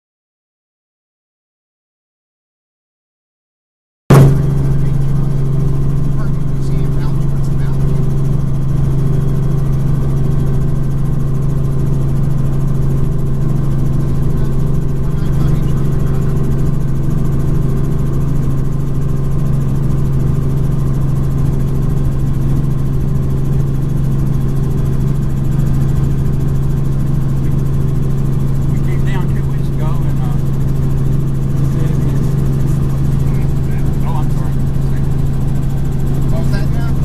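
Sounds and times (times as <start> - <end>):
helicopter drone: 4.1 - 37.0.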